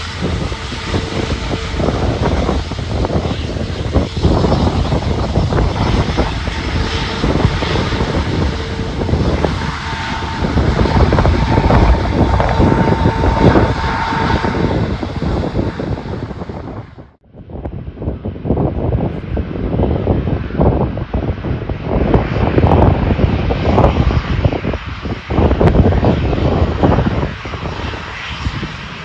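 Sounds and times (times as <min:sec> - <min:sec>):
jet airliner rumble: 0:00.0 - 0:29.0
jet engine whine: 0:00.0 - 0:29.0.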